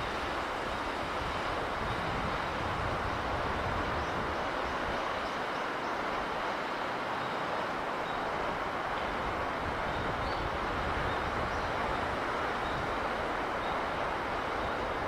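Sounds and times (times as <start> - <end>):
sea breeze rushing: 0.0 - 15.0.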